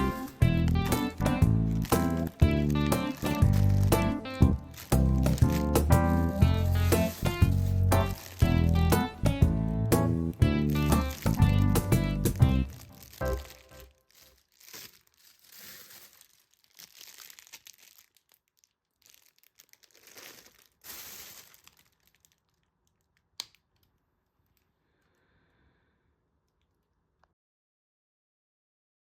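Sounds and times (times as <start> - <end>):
faint crinkling and rustling: 0.0 - 25.2.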